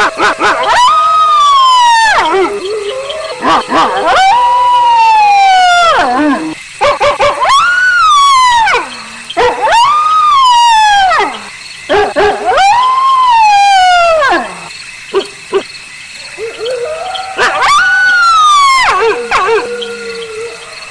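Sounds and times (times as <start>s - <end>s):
wolves howling: 0.0s - 6.6s, 7.2s - 20.9s
wolves yipping: 0.0s - 20.9s.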